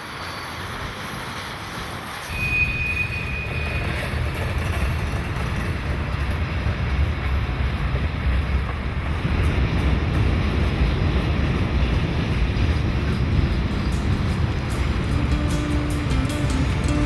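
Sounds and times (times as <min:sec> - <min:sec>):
train rumbling past: 0:00.0 - 0:17.0
wind buffeting microphone: 0:02.6 - 0:17.0.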